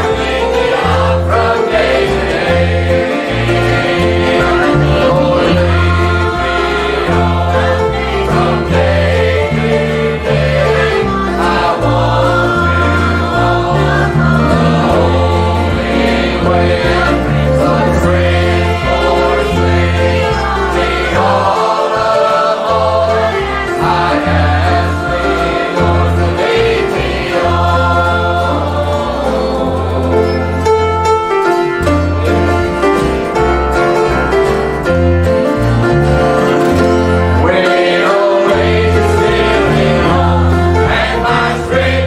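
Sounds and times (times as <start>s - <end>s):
bass line: 0.0s - 37.6s
choir singing a gospel hymn: 0.0s - 42.0s
instrumental accompaniment: 0.0s - 42.0s.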